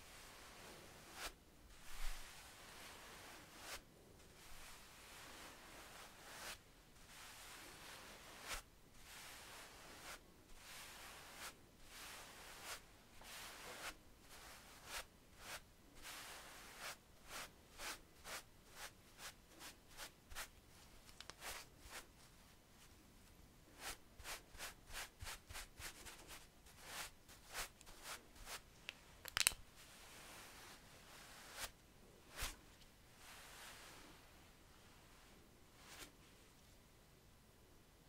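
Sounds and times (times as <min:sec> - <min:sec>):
paintbrush bristles swishing on skin: 0:00.0 - 0:23.0, 0:23.8 - 0:28.7, 0:29.4 - 0:34.4, 0:35.1 - 0:36.2.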